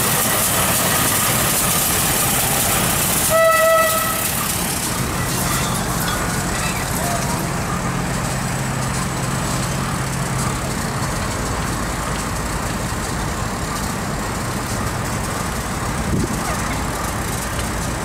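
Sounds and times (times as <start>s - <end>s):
diesel locomotive engines running: 0.0s - 18.0s
rail-yard machinery noise: 0.0s - 18.0s.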